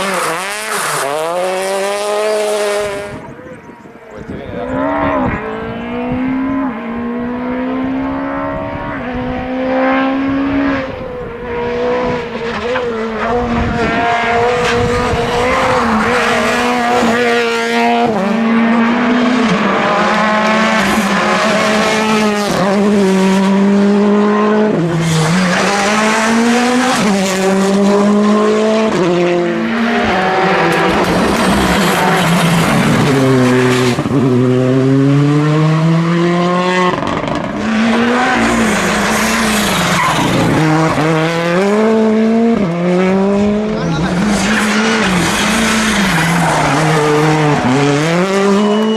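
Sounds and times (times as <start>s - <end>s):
rally car engine revving: 0.0s - 48.9s.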